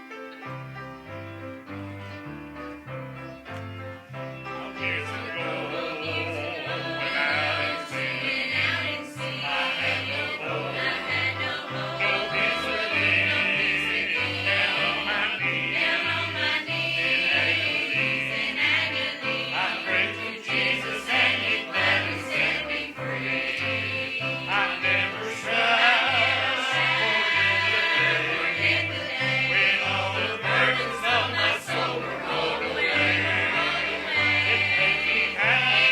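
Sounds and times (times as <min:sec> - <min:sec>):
instrumental accompaniment with bass: 0:00.0 - 0:35.9
choir singing gospel: 0:04.3 - 0:35.9.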